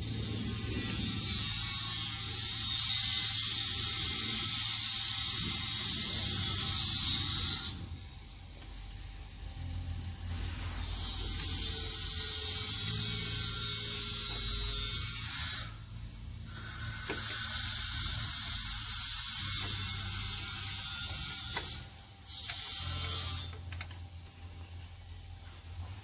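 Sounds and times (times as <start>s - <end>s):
mechanical rasping: 0.0s - 8.0s, 9.7s - 24.1s
constant low hum: 0.0s - 26.0s.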